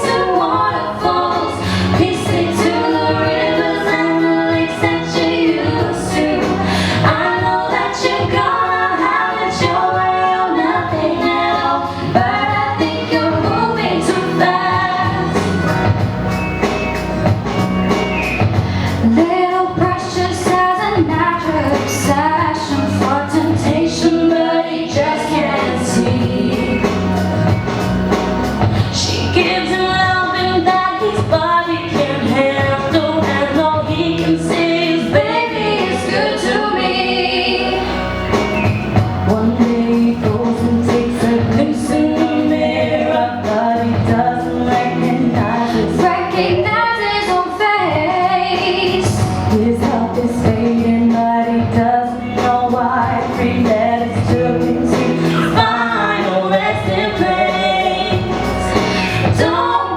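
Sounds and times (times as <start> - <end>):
choir singing pop song: 0.0 - 59.9.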